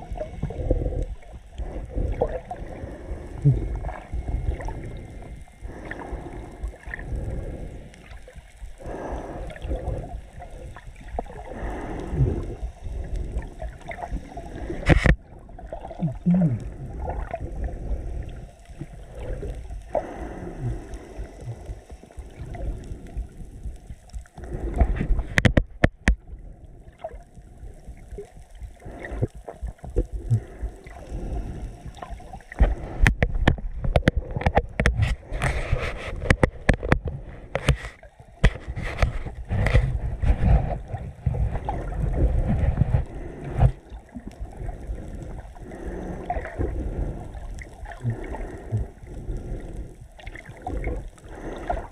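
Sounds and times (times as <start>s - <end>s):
crackling clicks: 0.0s - 51.9s
muffled underwater sloshing: 0.0s - 51.9s.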